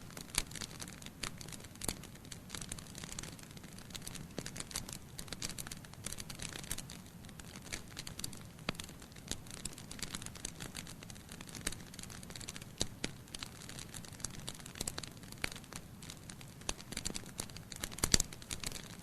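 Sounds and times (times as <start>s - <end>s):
logs crackling and popping: 0.0s - 19.0s.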